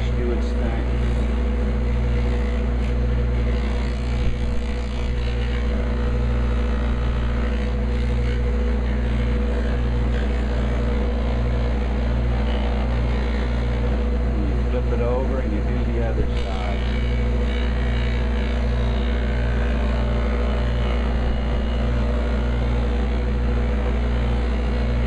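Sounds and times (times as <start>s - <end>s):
buffing machine motor hum: 0.0s - 25.0s.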